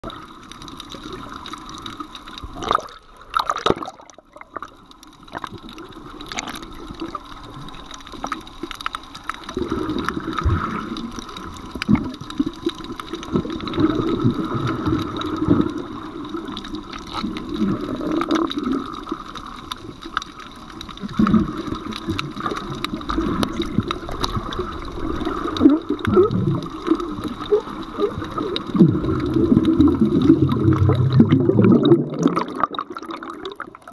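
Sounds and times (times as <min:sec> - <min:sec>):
clicks and crackles: 0:00.0 - 0:33.9
underwater water sloshing: 0:00.0 - 0:33.9.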